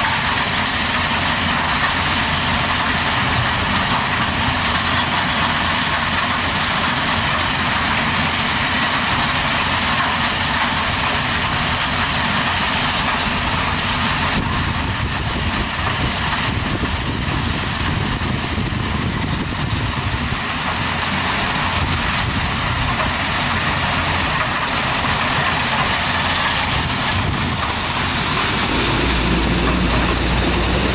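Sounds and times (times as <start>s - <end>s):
heavy machine engine running: 0.0s - 30.9s.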